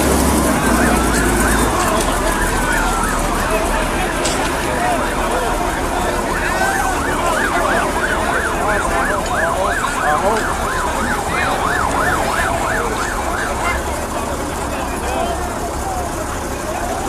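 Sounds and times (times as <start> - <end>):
ambulance siren yelping: 0.0 - 17.0.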